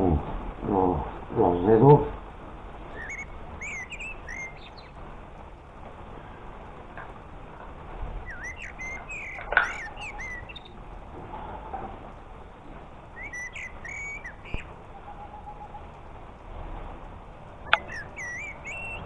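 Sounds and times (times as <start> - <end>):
rain falling: 0.0 - 19.0
small birds chirping: 0.0 - 19.0.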